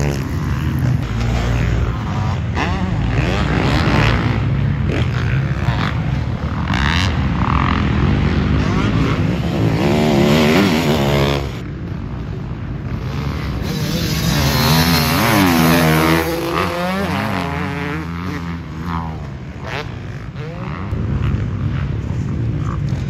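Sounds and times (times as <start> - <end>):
dirt bikes revving past: 0.0 - 23.0.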